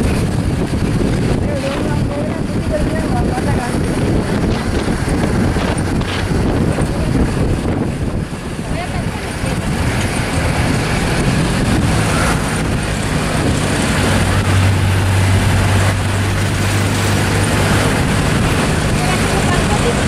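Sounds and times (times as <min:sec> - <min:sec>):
low engine drone: 0:00.0 - 0:20.0
wind and tyre rush: 0:00.0 - 0:20.0.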